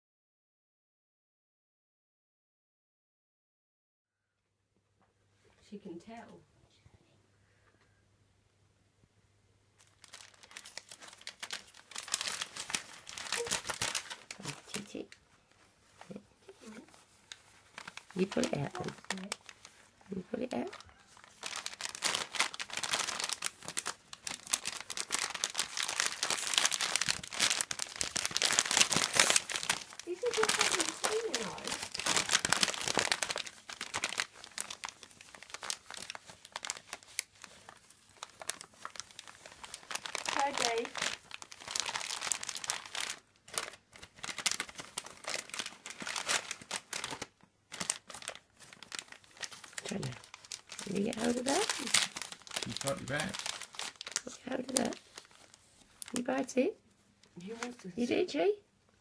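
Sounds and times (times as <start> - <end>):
plastic packet crackling: 9.8 - 56.6, 57.2 - 58.5
gift wrapping crumpling and rustling: 9.8 - 58.6.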